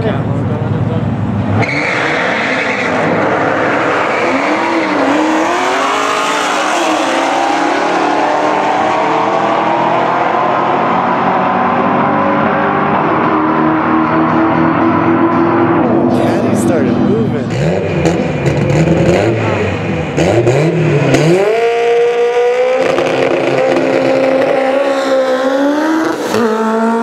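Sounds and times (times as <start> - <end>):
car engines at full throttle: 0.0 - 27.0.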